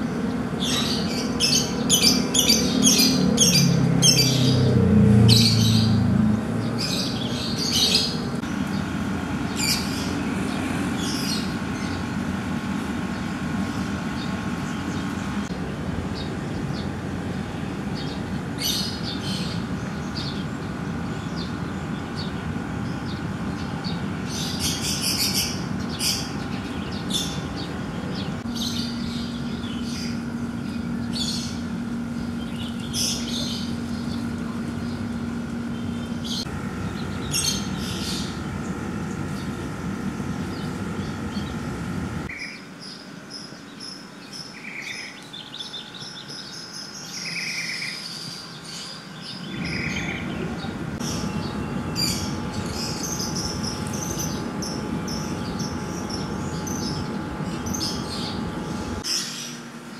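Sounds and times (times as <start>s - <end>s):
small birds chirping: 0.0s - 6.0s, 6.6s - 59.6s.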